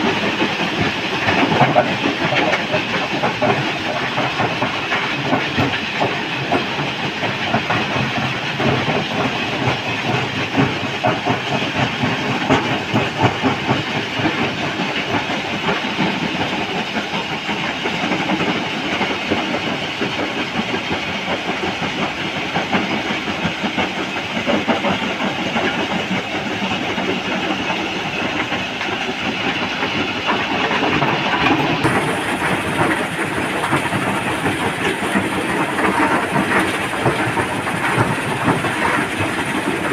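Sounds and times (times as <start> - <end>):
heavy machinery engine: 0.0 - 39.9
rattle and clatter of rock: 0.0 - 39.9.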